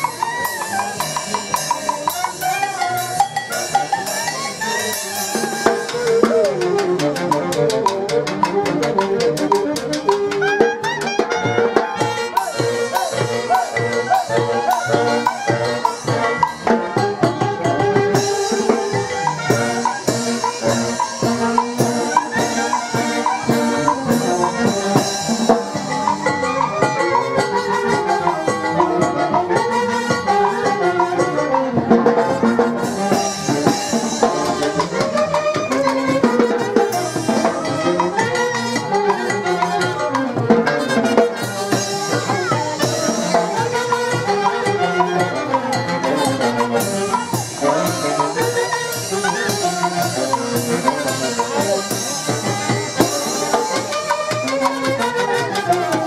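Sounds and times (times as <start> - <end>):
brass band playing dance music: 0.0 - 56.0.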